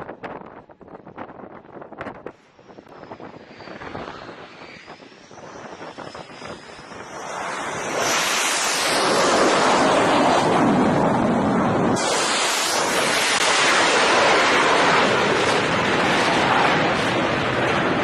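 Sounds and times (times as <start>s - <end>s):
jet engine high whine: 0.0s - 18.0s
jet engine rushing roar: 2.2s - 18.0s.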